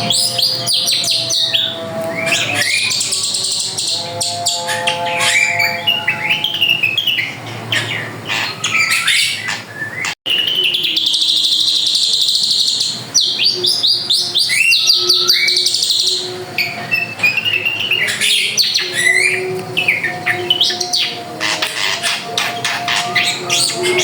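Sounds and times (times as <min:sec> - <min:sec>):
bird whistling and chattering: 0:00.0 - 0:24.0.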